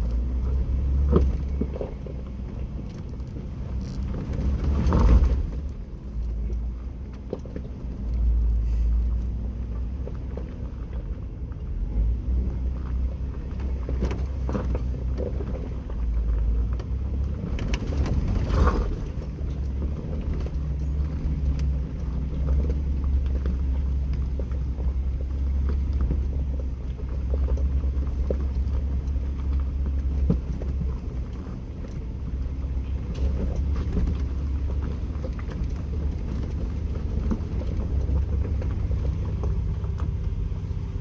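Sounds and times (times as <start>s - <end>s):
engine and drivetrain rumble: 0.0s - 41.0s.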